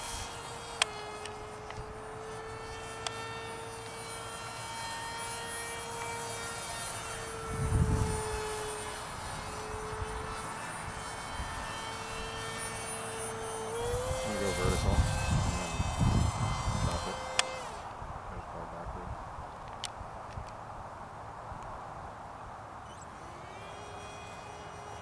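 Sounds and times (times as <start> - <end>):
model plane motor whine: 0.0 - 18.0, 22.8 - 25.0
low rumble of plane passing: 0.0 - 25.0.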